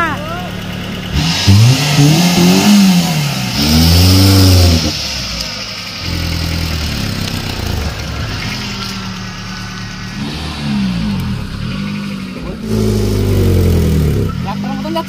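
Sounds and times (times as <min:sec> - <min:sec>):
car engine running and revving: 0:00.0 - 0:15.0.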